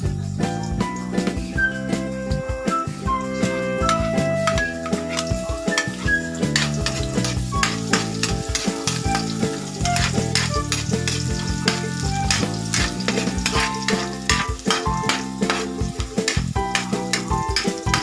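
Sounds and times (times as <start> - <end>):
background music: 0.0 - 18.0
food sizzling in a pan: 0.0 - 18.0
utensil scraping a pan: 3.4 - 18.0.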